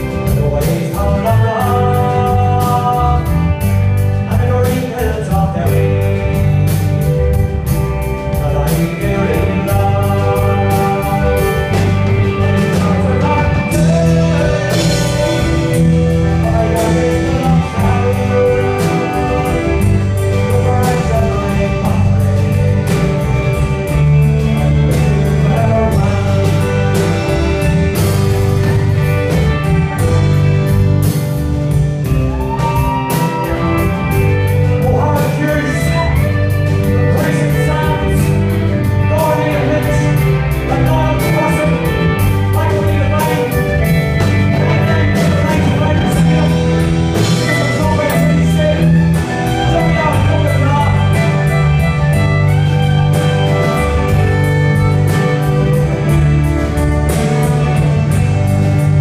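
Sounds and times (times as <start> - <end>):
live rock band playing: 0.0 - 59.0
steady drum beat: 0.0 - 59.0.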